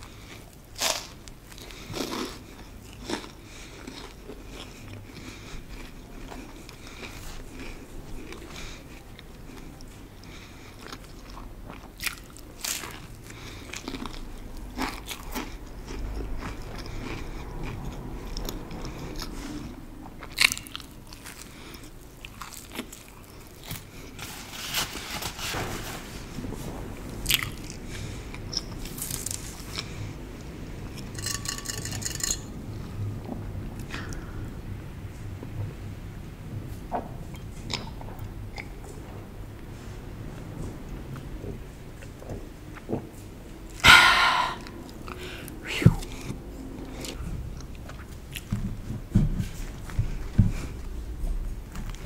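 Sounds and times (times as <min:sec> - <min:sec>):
chewing crusty bread: 0:00.0 - 0:34.3, 0:37.3 - 0:39.2, 0:46.0 - 0:52.0.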